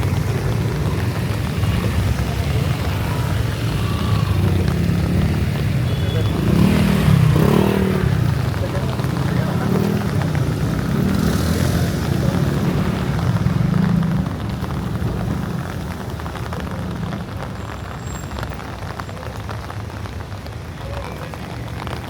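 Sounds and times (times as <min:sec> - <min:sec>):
heavy rain on a street: 0:00.0 - 0:22.0
vehicle engine rumble: 0:00.0 - 0:22.0.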